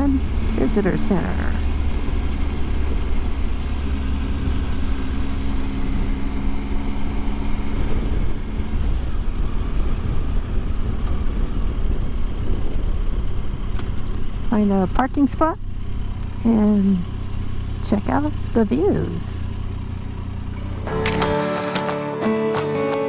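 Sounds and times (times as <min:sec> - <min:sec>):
wind and road noise: 0:00.0 - 0:21.2
motorcycle engine running: 0:00.0 - 0:22.2.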